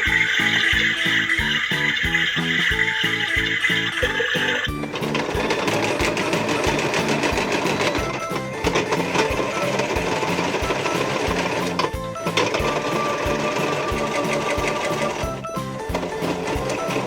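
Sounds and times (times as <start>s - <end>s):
background music with steady beat: 0.0s - 17.0s
toy washing machine whirring: 0.0s - 17.0s
washing sound effects: 0.0s - 17.0s.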